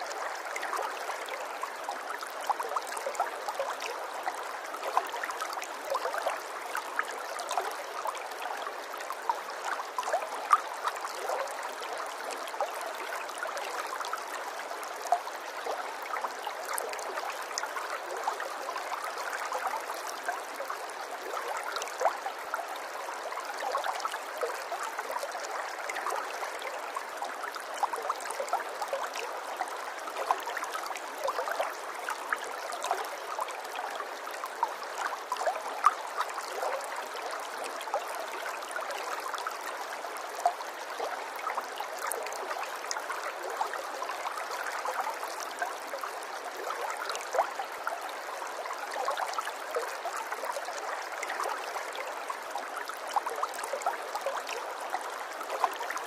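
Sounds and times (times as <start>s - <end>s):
stream trickling and gurgling: 0.0s - 56.0s.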